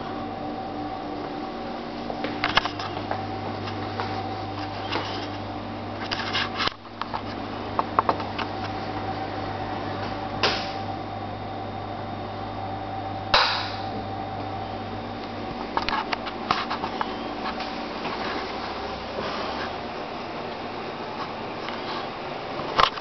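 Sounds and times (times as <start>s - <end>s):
low hum: 0.0s - 22.8s.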